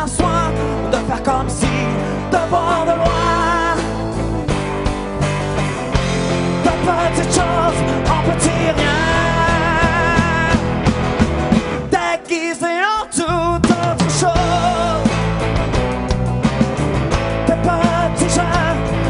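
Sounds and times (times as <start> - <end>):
electric guitar lead lines: 0.0 - 19.0
rock band playing: 0.0 - 19.0.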